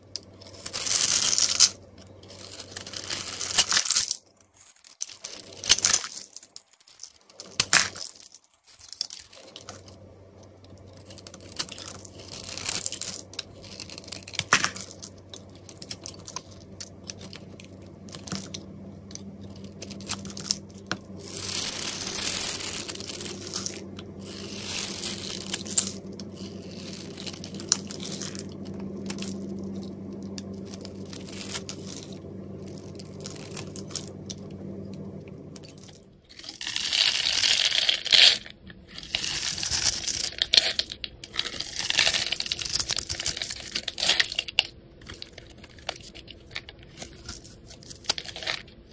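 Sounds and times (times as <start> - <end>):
steady low hum: 0.0 - 4.4, 9.2 - 48.9.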